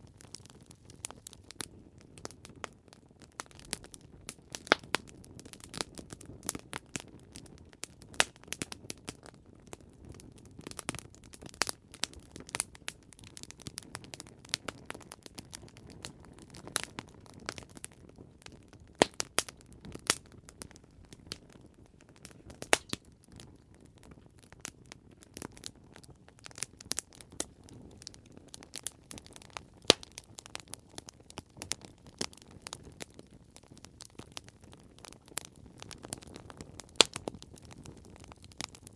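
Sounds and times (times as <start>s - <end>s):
campfire crackling and popping: 0.0s - 38.9s
low hiss of burning: 0.0s - 38.9s.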